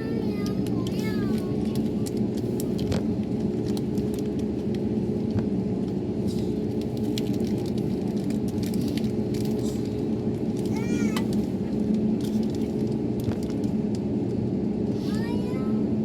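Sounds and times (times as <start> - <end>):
distant jet engines roaring: 0.0 - 16.0.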